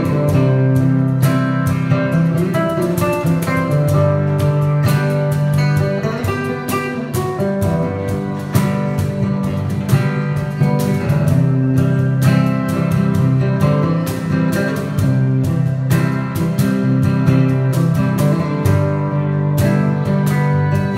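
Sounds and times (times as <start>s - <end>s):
acoustic guitar playing: 0.0s - 20.9s.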